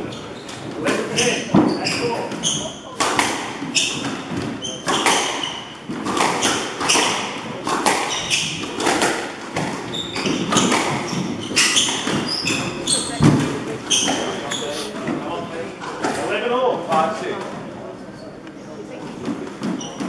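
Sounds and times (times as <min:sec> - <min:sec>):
shoes squeaking on wooden floor: 0:00.0 - 0:16.3, 0:19.0 - 0:20.0
squash ball hitting rackets and walls: 0:00.5 - 0:17.1, 0:19.1 - 0:20.0.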